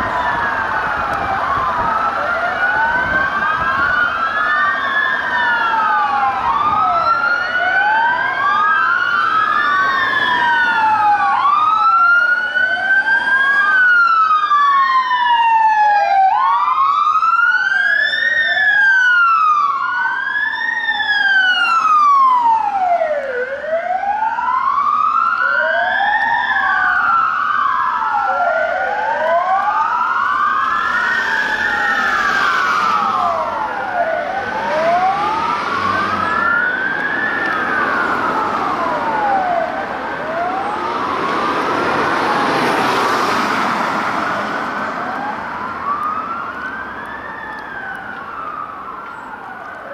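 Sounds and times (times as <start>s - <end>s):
police sirens wailing: 0.0s - 49.9s.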